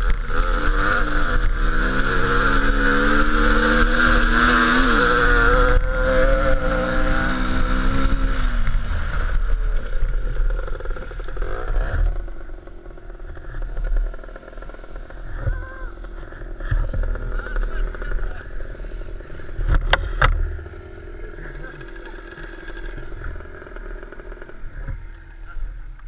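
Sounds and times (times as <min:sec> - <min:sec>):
low road rumble: 0:00.0 - 0:26.0
vehicle engine driving: 0:00.0 - 0:26.0.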